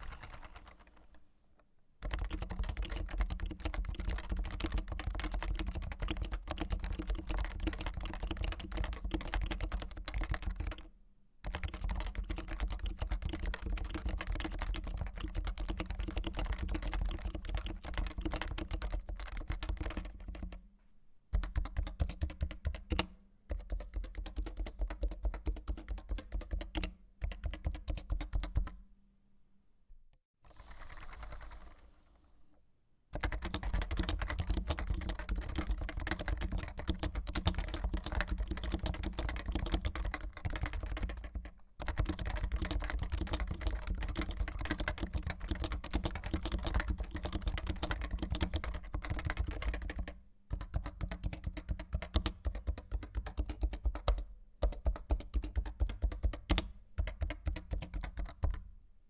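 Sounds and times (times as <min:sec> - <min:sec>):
keyboard typing: 0:00.0 - 0:01.2, 0:02.0 - 0:10.9, 0:11.5 - 0:20.6, 0:21.4 - 0:28.8, 0:33.2 - 0:58.6.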